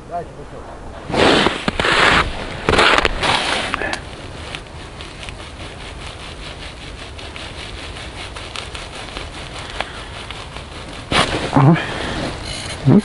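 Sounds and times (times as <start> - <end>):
footsteps crunching in snow: 1.0 - 12.6.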